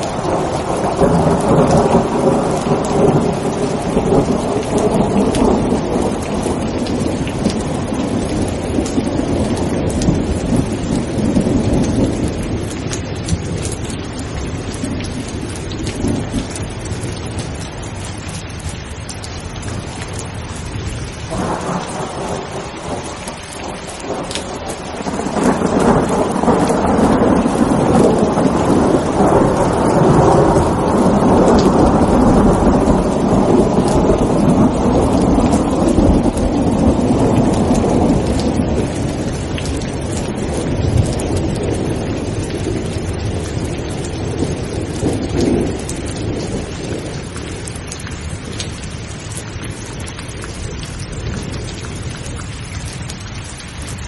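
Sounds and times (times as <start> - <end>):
thunder rolling: 0.0 - 17.4, 20.9 - 48.8
steady rain: 0.0 - 54.0.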